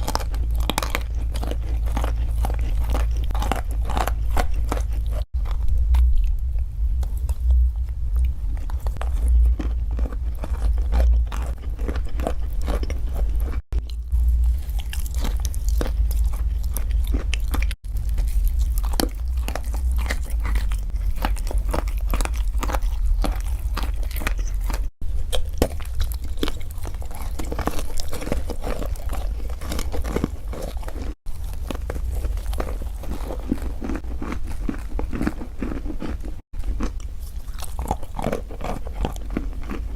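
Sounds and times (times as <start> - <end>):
steady low rumble: 0.0 - 35.1
crunchy food chewing: 0.0 - 39.9.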